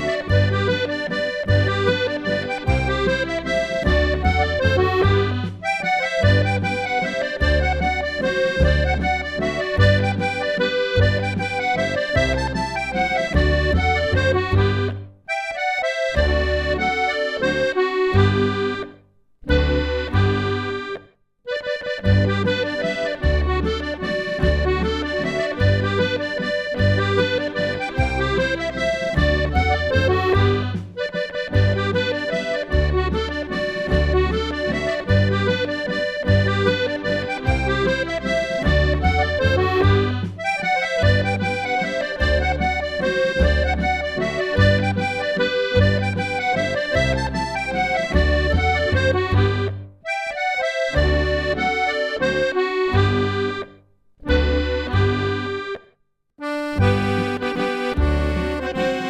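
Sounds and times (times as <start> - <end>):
accordion playing folk dance tune: 0.0 - 59.0.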